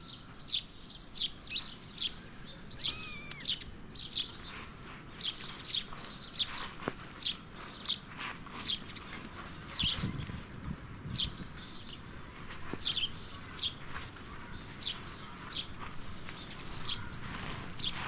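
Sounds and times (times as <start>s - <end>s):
outdoor background noise: 0.0s - 18.0s
small bird chirping: 0.0s - 18.0s.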